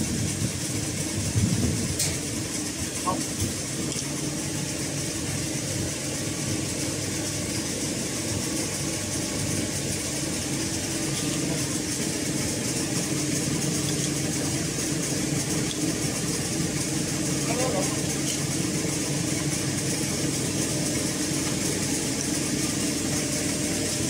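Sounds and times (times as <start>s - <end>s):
baler machinery humming: 0.0s - 24.0s.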